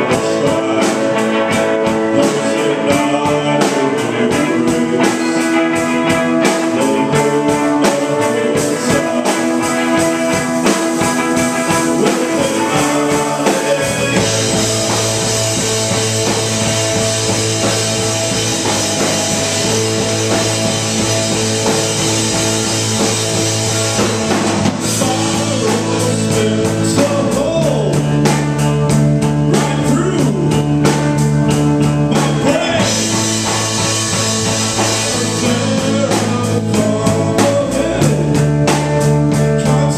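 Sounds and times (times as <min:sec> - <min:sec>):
bass line: 0:00.0 - 0:39.9
live rock band playing: 0:00.0 - 0:39.9.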